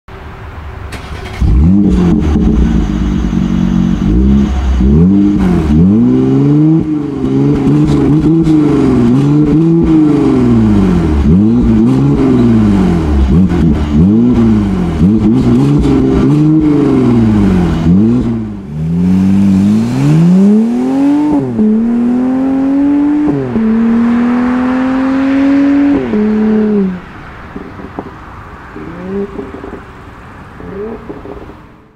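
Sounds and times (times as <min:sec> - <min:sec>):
car engine revving and accelerating: 0:01.0 - 0:28.1, 0:28.7 - 0:29.8.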